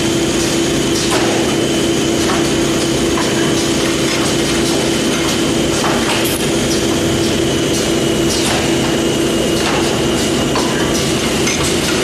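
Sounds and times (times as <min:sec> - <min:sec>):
machine hum and whine: 0:00.0 - 0:12.0
sharp machine clacks: 0:00.3 - 0:12.0.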